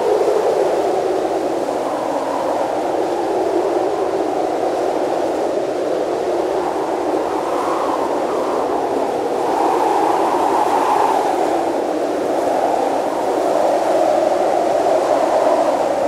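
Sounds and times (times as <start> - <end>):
blizzard wind rushing: 0.0 - 16.0.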